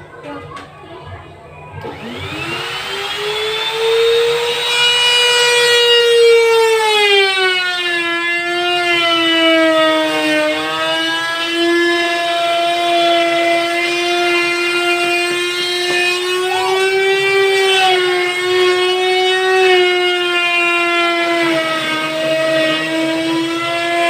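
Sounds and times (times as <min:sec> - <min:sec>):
electric router whining: 0:01.8 - 0:24.0.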